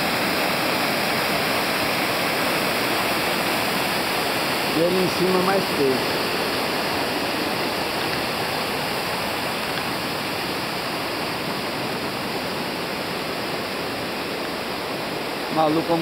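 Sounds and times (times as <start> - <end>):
waterfall rushing over rock: 0.0 - 16.0.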